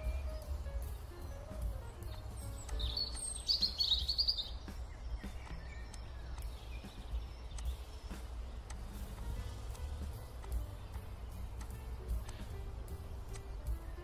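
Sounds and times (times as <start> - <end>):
bird chirping trill: 0.0 - 14.0.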